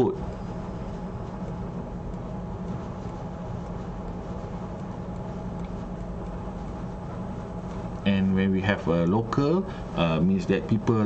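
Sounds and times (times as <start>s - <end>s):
room noise hum and hiss: 0.0s - 11.0s.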